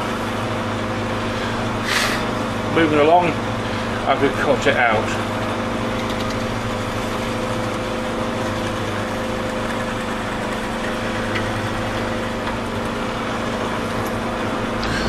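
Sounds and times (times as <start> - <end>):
mortise machine motor humming: 0.0 - 15.0.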